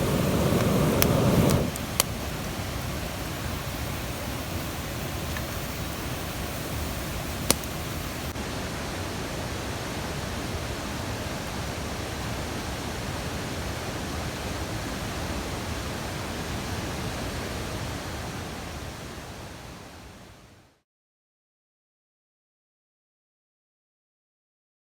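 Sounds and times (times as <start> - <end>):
mountain stream rushing: 0.0 - 20.6.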